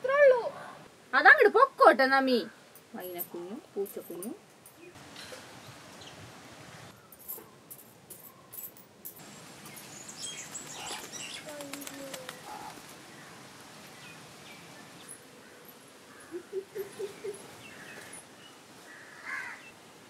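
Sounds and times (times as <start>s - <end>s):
birds chirping: 2.4s - 19.8s.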